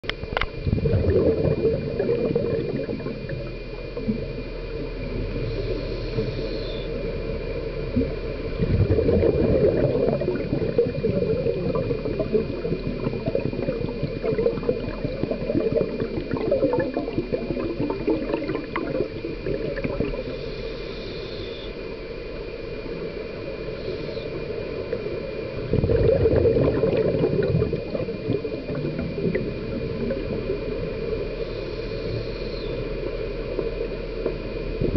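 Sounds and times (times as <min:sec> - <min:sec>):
faint steady hum: 0:00.0 - 0:34.9
underwater bubbles gurgling: 0:00.0 - 0:34.9.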